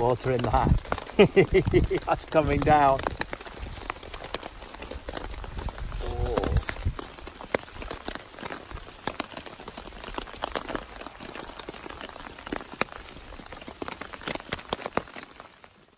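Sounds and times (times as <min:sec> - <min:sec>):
rain on tent fabric: 0:00.0 - 0:15.9.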